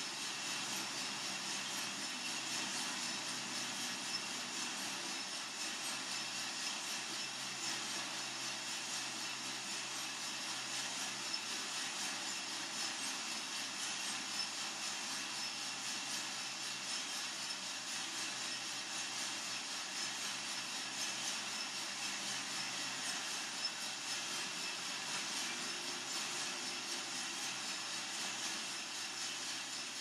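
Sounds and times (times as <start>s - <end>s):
coffee roaster whooshing: 0.0s - 30.0s.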